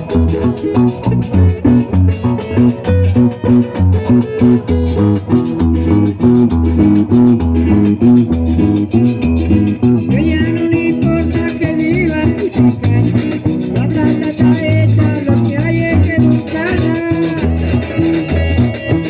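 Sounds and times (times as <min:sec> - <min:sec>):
plucked guitars dance music: 0:00.0 - 0:19.0.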